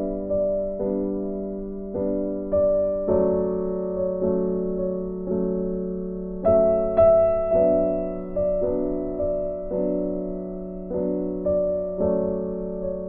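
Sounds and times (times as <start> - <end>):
slow gentle piano: 0.0 - 13.0.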